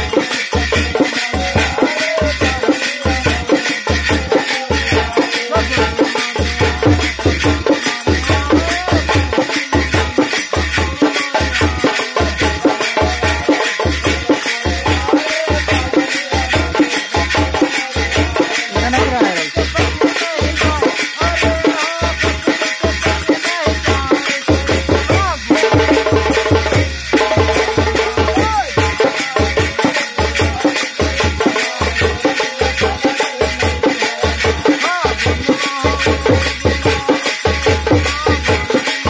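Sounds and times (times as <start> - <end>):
dholak drum beat: 0.0 - 39.0
hand rattle shaking: 0.0 - 39.0
men singing folk song: 0.0 - 39.0
small cymbals jingling: 0.0 - 39.0.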